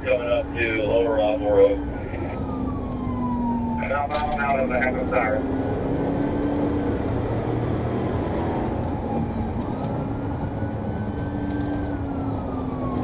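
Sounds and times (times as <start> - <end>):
car engine and road rumble: 0.0 - 13.0
siren wailing: 0.0 - 13.0.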